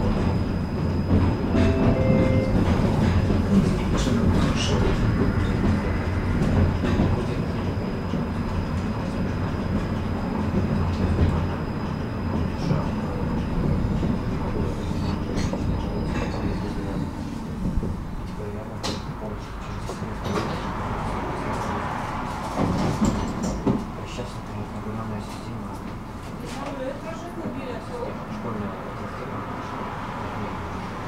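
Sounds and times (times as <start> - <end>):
tram wheels rumbling on rails: 0.0 - 31.0.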